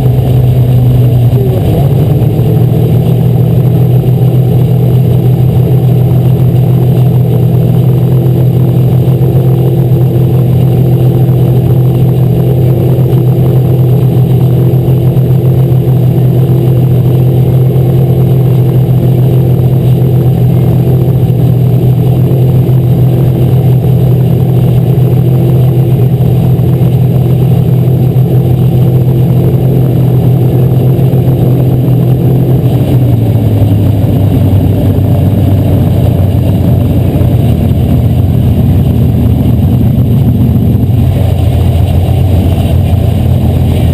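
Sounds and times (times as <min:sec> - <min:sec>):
race car engine running: 0:00.0 - 0:43.9.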